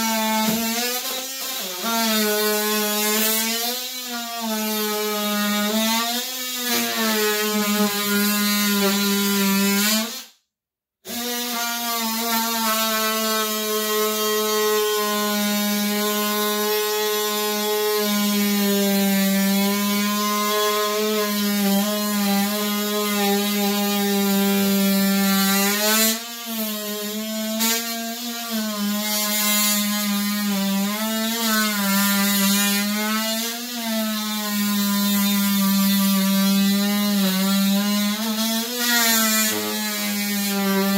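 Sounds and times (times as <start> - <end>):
power tool buzzing on wood: 0.0 - 10.3, 11.1 - 40.9.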